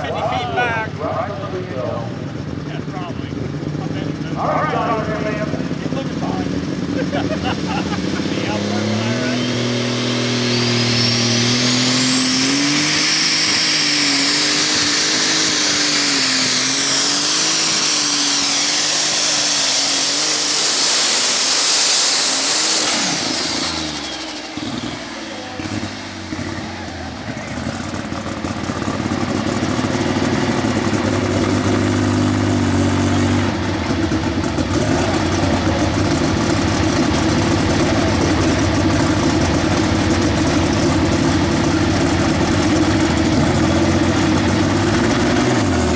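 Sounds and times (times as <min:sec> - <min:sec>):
tractor engine at full throttle: 0:00.0 - 0:45.9
turbocharger whine: 0:00.0 - 0:45.9.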